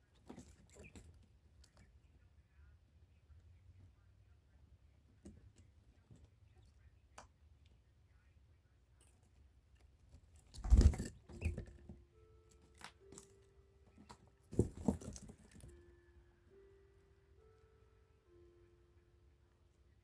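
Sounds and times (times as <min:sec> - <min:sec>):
faint background music: 0:00.0 - 0:20.0.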